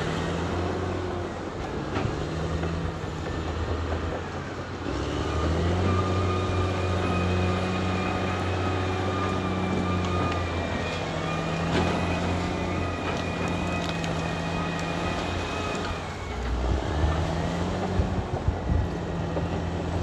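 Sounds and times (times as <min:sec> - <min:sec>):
bulldozer diesel engine working: 0:00.0 - 0:20.0.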